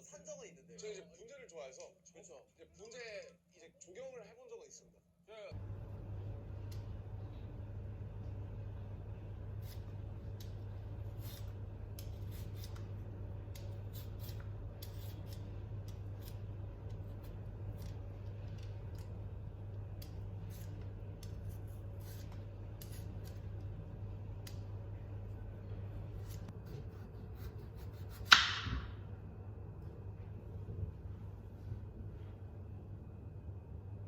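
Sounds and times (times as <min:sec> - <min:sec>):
steady low hum: 0:05.4 - 0:34.0.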